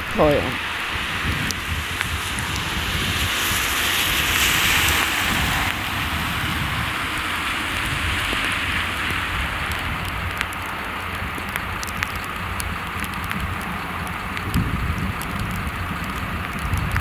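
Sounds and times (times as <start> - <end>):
car tyres swishing on wet road: 0.0 - 17.0
rain hiss: 0.0 - 17.0
raindrop ticks: 1.2 - 17.0.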